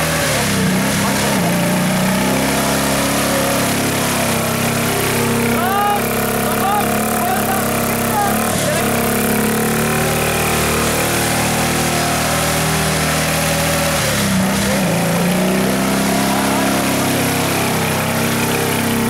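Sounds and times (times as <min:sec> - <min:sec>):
engine running hard in mud: 0:00.0 - 0:19.0.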